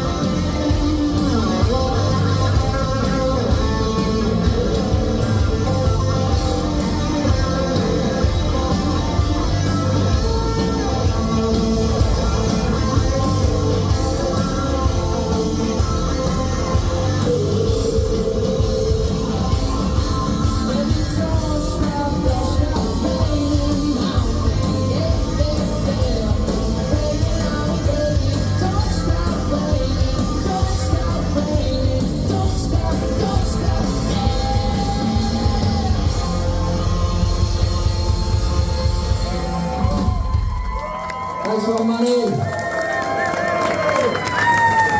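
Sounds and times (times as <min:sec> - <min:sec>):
person singing: 0:00.0 - 0:40.2
rock band playing: 0:00.0 - 0:44.9.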